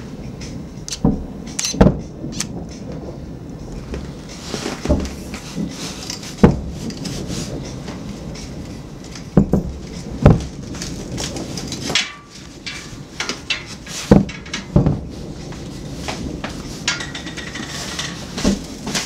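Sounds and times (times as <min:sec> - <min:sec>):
firework crackling: 0:00.0 - 0:19.0.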